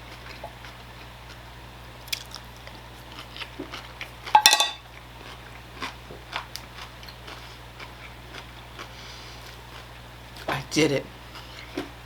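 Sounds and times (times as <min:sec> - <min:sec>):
person chewing food: 0:00.0 - 0:10.5, 0:11.2 - 0:12.0.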